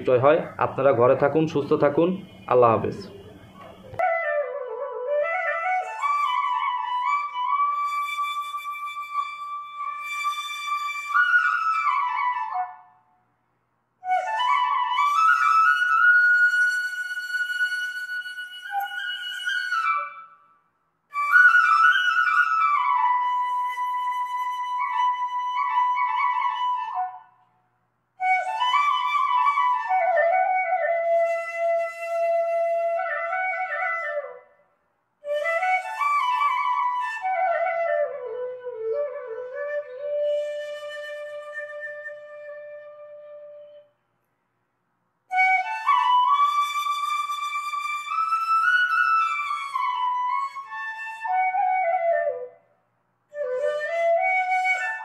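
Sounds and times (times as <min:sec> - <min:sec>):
slow flute melody: 0:00.6 - 0:13.2, 0:14.0 - 0:27.6, 0:28.2 - 0:34.6, 0:35.2 - 0:44.0, 0:45.3 - 0:52.7, 0:53.3 - 0:55.0.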